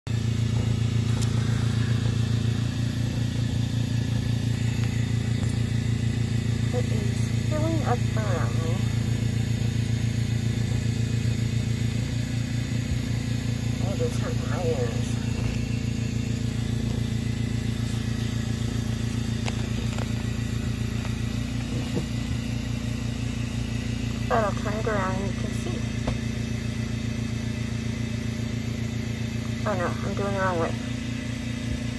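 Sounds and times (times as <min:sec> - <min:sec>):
air compressor drone: 0:00.1 - 0:31.9
fluttering machinery hum: 0:00.1 - 0:31.9.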